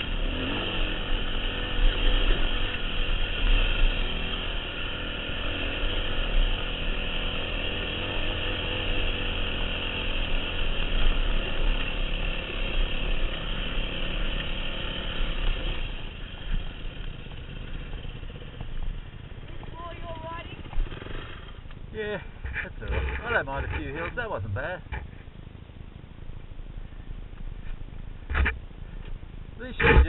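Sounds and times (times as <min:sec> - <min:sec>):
dirt bike engine running: 0:00.0 - 0:25.3.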